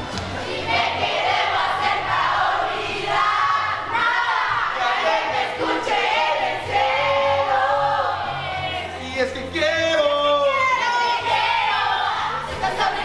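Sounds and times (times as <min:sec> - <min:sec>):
steady bass: 0:00.0 - 0:13.0
voices singing a melody: 0:00.2 - 0:13.0.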